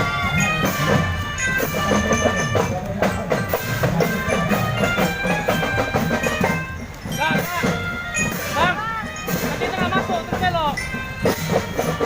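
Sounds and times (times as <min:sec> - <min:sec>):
marching drum band playing: 0:00.0 - 0:12.0.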